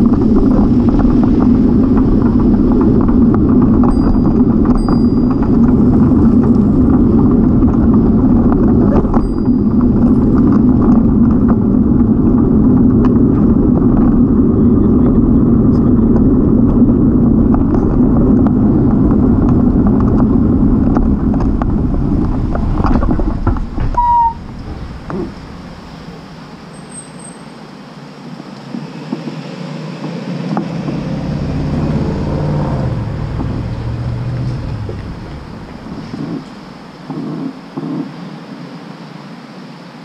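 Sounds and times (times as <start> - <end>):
wind noise on microphone: 0.0 - 27.2, 28.5 - 40.0.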